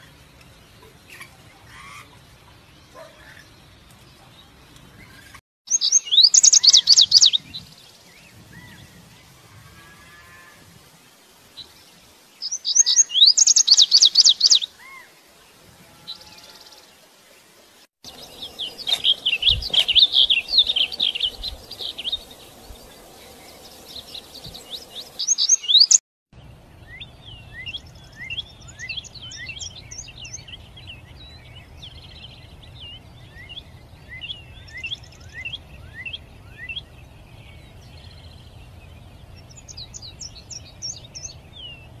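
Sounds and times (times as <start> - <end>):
songbirds chirping: 0.0 - 9.4, 10.8 - 42.0.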